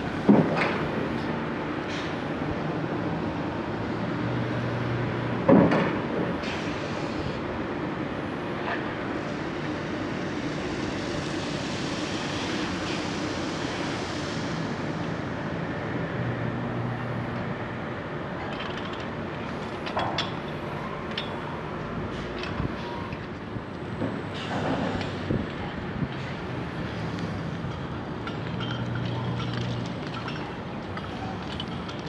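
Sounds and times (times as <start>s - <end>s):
crane mechanical drone: 0.0s - 32.0s.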